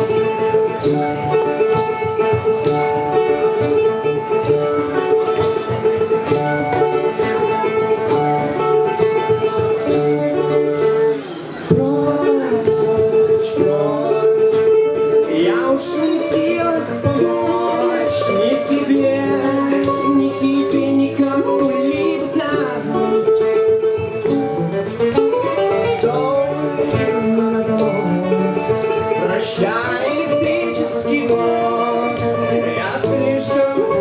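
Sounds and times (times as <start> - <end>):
band playing guitar-led music: 0.0 - 34.0.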